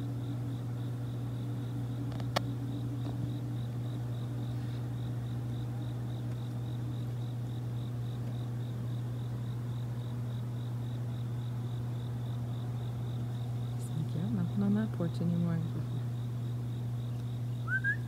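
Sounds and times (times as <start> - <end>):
insects chirping: 0.0 - 18.0
steady low hum: 0.0 - 18.0.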